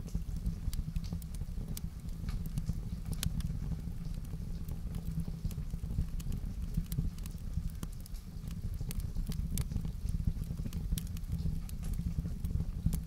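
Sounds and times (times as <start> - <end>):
fire pops and snaps: 0.0 - 13.0
wood fire crackling: 0.0 - 13.0.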